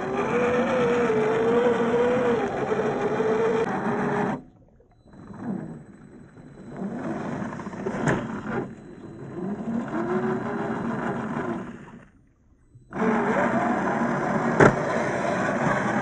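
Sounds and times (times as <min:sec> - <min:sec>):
toy car electric motor whining: 0:00.0 - 0:04.5, 0:06.6 - 0:12.0, 0:12.9 - 0:16.0.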